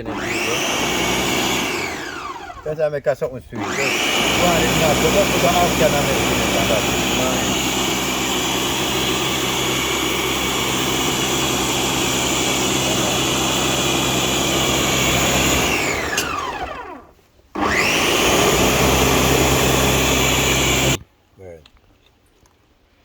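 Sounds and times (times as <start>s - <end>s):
electric blender running: 0.0s - 2.8s, 3.6s - 21.0s.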